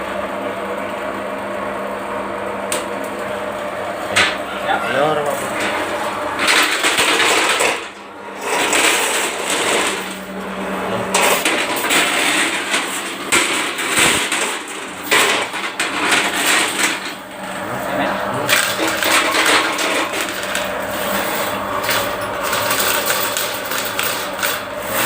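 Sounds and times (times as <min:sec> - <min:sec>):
drain cleaning machine running: 0:00.0 - 0:25.0.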